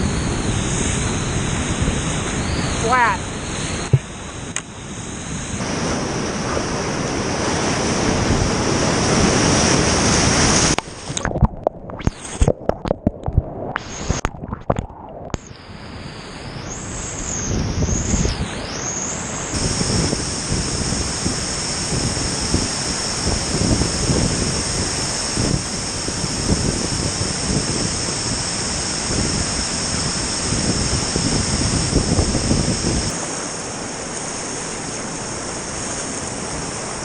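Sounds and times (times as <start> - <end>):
whitewater roaring: 0.0 - 11.4, 14.9 - 37.0
wind buffeting microphone: 0.0 - 16.0, 16.6 - 18.8, 19.5 - 33.2.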